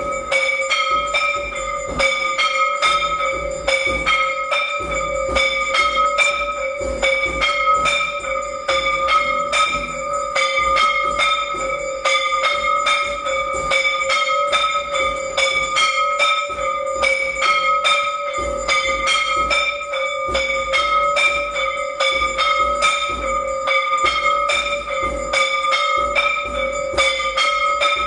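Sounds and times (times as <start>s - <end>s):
bell rung rapidly: 0.0s - 28.0s.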